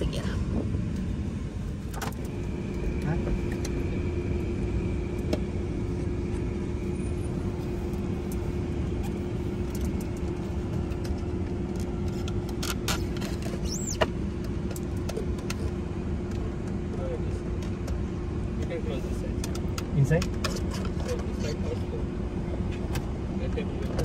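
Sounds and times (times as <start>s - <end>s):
car idling hum: 0.0s - 24.0s.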